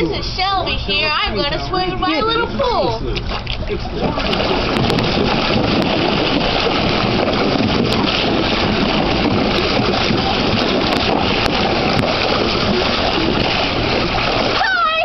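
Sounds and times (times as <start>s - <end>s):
water splashing in kiddie pool: 2.3s - 15.0s.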